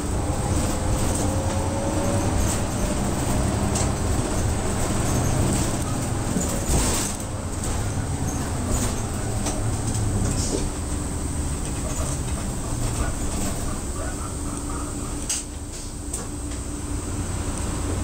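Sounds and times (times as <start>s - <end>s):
bus engine running: 0.0s - 18.0s
road noise: 0.0s - 18.0s.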